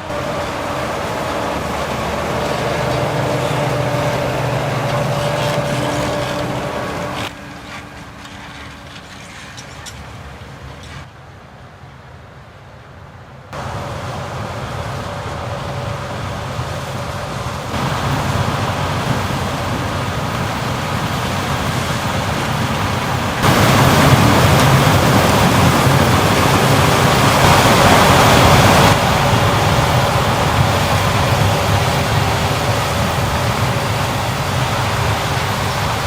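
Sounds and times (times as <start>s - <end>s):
harvest machinery working: 0.0s - 11.0s, 13.6s - 36.0s.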